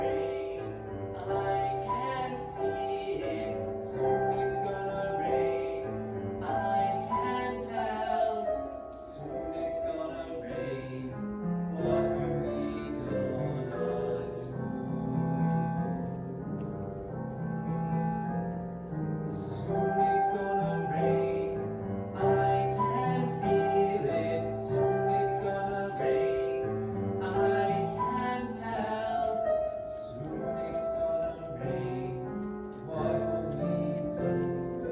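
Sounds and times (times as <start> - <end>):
person singing a ballad: 0.0 - 16.7, 19.2 - 34.9
piano accompaniment: 0.0 - 34.9.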